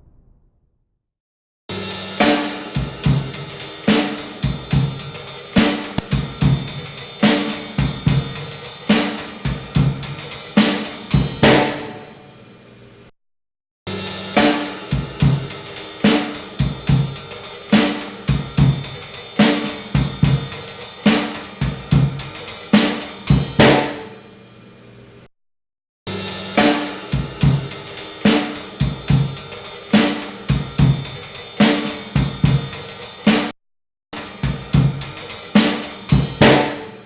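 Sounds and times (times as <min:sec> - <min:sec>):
slow drum kit groove: 0:01.7 - 0:11.9, 0:13.9 - 0:24.1, 0:26.1 - 0:33.6, 0:34.2 - 0:37.0.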